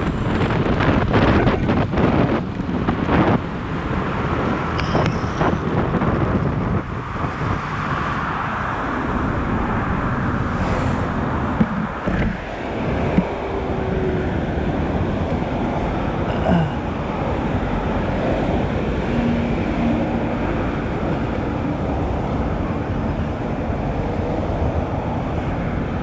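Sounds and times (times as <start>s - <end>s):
engine and tyre noise: 0.0s - 26.0s
wind rushing over microphone: 0.0s - 26.0s.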